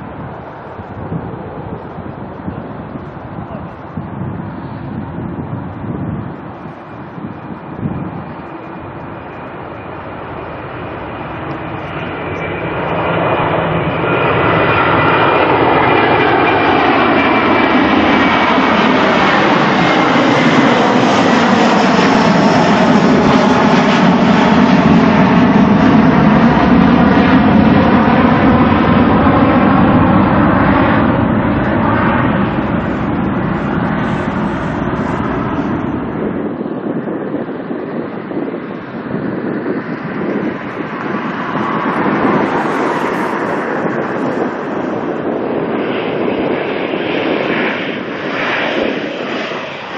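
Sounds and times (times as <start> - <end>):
jet engines passing: 0.0 - 49.9.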